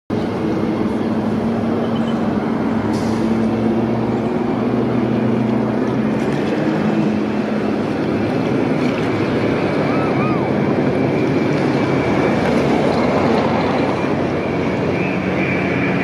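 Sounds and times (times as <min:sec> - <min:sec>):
jet engines droning: 0:00.1 - 0:16.0.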